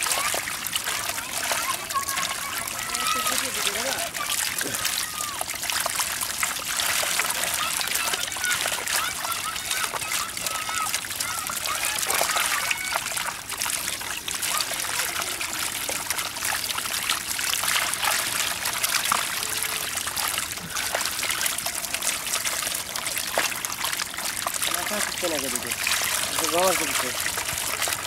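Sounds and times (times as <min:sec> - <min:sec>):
fish flapping and splashing: 0:00.0 - 0:28.0
trickling water: 0:00.0 - 0:28.0.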